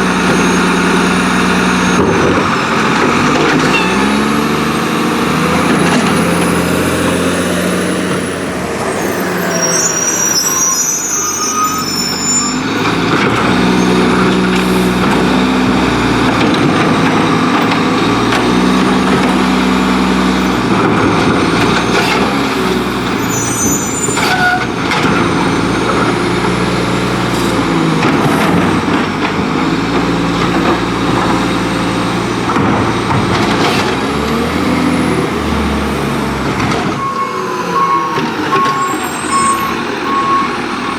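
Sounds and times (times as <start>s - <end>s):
truck clunks: 0.0s - 9.4s, 11.7s - 40.9s
diesel truck engine revving: 0.0s - 40.9s.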